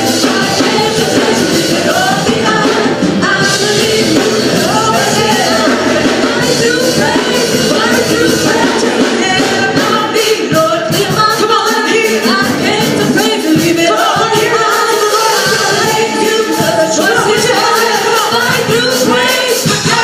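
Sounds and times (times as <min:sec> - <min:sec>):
voices singing worship song: 0:00.0 - 0:20.0.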